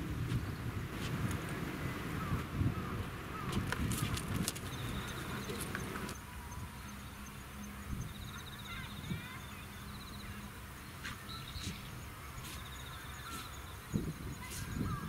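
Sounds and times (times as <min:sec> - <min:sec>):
wind rumble: 0:00.0 - 0:12.4, 0:13.8 - 0:15.0
faint distant bird calls: 0:00.0 - 0:15.0.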